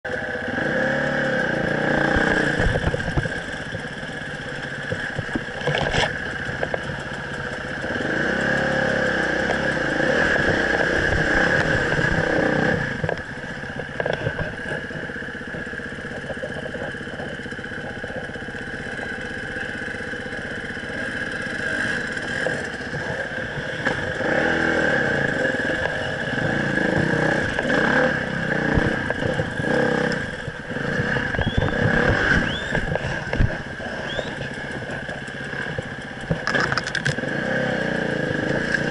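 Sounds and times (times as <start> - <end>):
dirt bike engine revving: 0.1 - 38.9.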